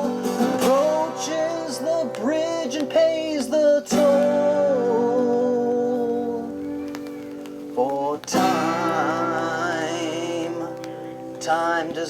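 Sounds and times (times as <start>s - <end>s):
acoustic guitar chord: 0.0s - 6.8s, 7.6s - 12.0s.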